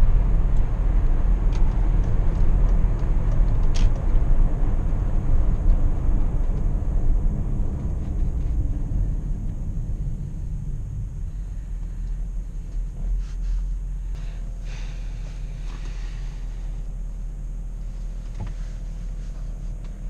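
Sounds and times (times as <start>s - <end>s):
car engine low rumble: 0.0s - 20.0s
road and tyre noise: 0.0s - 20.0s.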